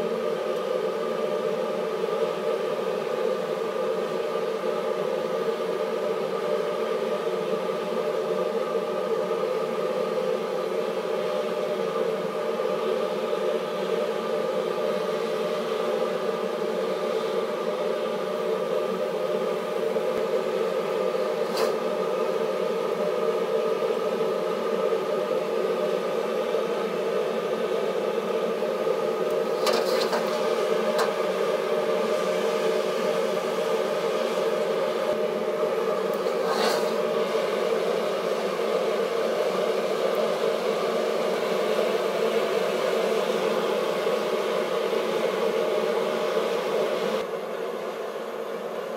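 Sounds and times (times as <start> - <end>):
wok burner flame rushing: 0.0 - 47.5.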